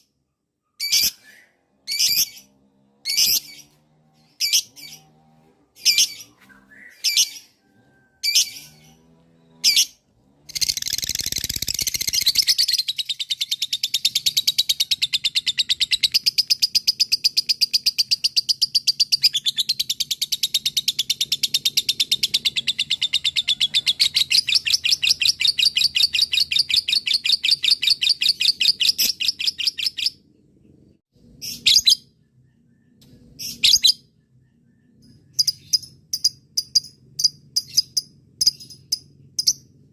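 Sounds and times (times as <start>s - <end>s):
bird chirping and trilling: 0.6s - 30.4s, 31.3s - 39.8s.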